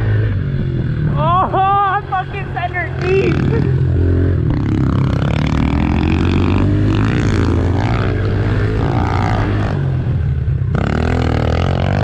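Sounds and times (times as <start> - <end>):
pit bike engine revving: 0.0 - 12.0.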